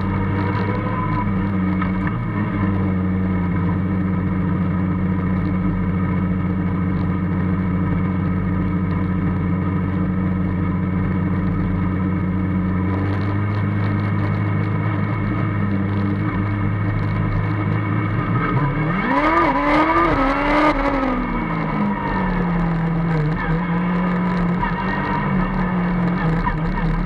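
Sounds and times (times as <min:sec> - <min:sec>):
race car engine running steadily: 0:00.0 - 0:27.0.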